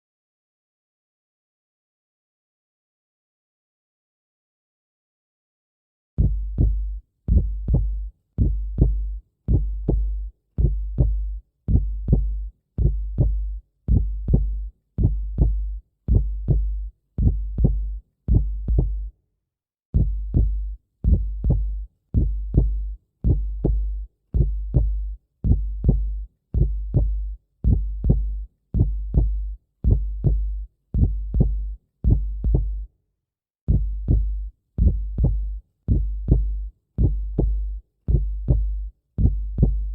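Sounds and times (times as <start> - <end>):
heartbeat thumps: 6.2 - 19.1, 20.0 - 32.8, 33.7 - 39.9.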